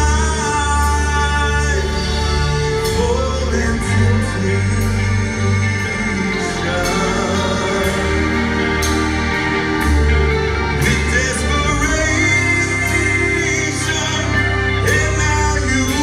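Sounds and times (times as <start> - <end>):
man singing: 0.0 - 9.3, 10.8 - 16.0
bass guitar: 0.0 - 16.0
guitar and keyboard chords: 0.0 - 16.0.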